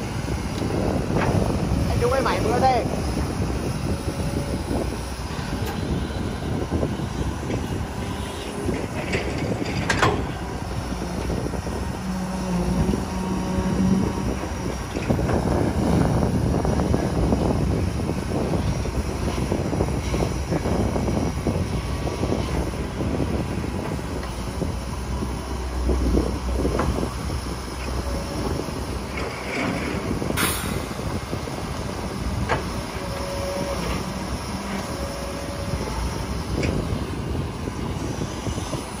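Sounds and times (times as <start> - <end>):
excavator diesel engine under load: 0.0 - 39.0.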